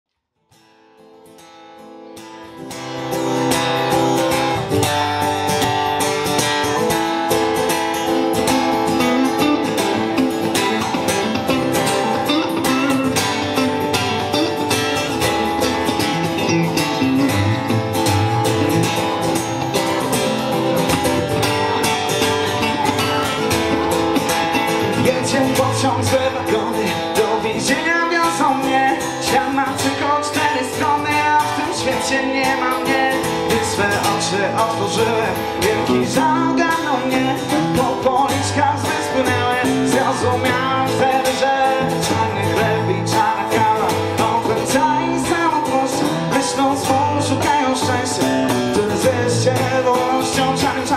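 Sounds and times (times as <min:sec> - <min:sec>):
acoustic guitar strumming and picking: 0:00.5 - 0:50.9
electric guitar playing: 0:00.6 - 0:50.9.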